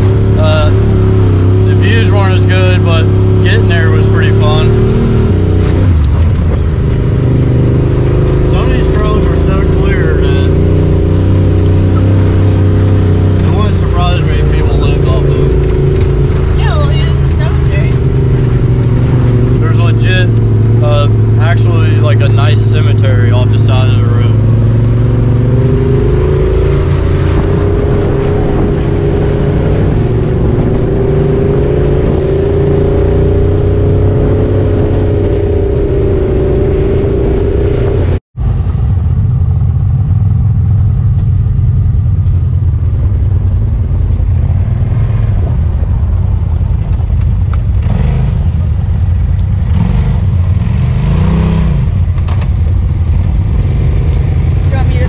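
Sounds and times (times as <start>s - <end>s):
steady whine: 0.0s - 47.8s
vehicle engine running: 0.0s - 55.0s.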